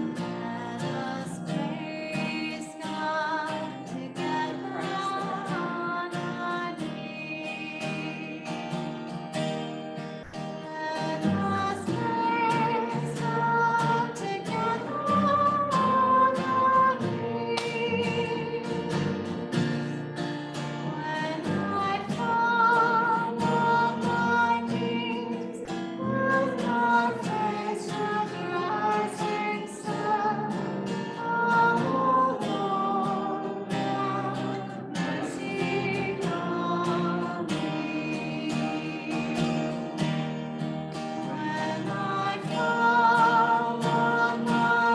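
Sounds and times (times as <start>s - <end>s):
person singing: 0.0s - 40.3s, 40.9s - 44.9s
acoustic guitar playing: 0.0s - 44.9s.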